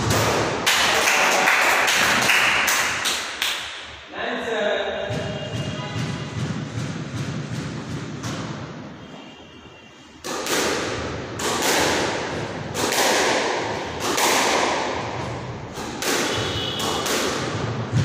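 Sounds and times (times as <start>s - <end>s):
squash ball hits with echo: 0.0s - 4.0s, 4.9s - 9.2s, 10.2s - 18.0s.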